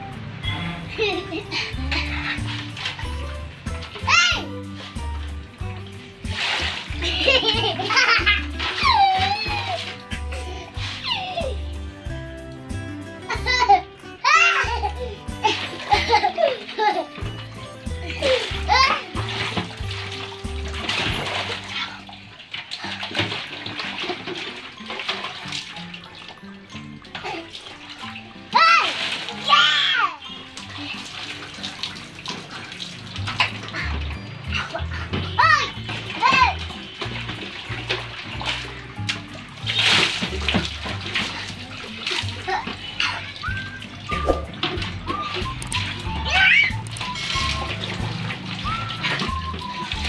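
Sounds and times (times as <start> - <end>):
background music: 0.0 - 50.0
water splashing into metal basins: 0.0 - 50.0.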